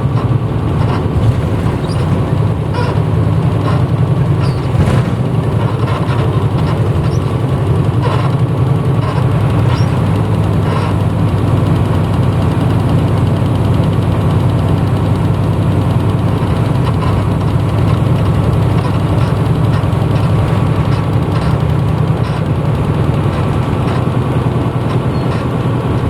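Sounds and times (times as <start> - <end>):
clicks and rattles: 0.0 - 11.5, 16.1 - 26.0
bus diesel engine running: 0.0 - 26.0.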